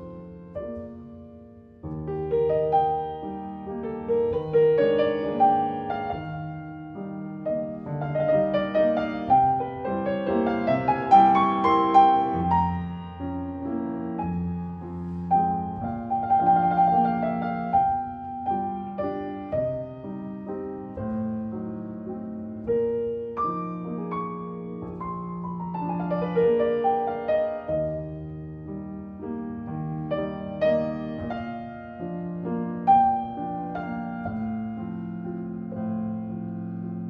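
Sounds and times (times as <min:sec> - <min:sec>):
gentle instrumental music: 0:00.0 - 0:37.0.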